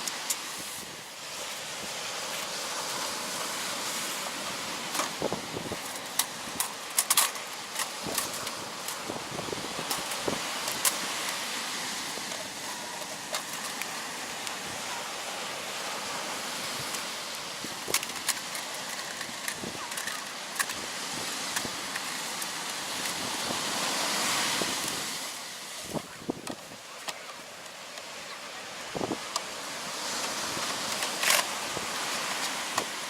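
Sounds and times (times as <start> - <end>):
sea surf: 0.0 - 33.0
wind: 0.0 - 33.0.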